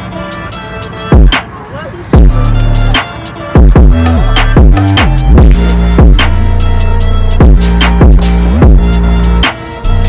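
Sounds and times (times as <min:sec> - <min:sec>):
electronic music with heavy beat: 0:00.3 - 0:10.0.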